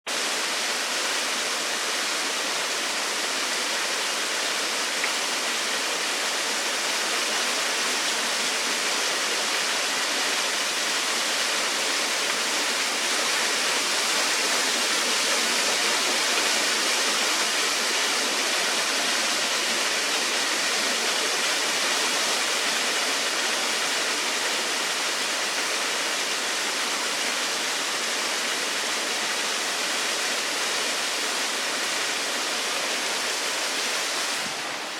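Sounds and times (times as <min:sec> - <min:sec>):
small waterfall rushing: 0:00.1 - 0:34.9.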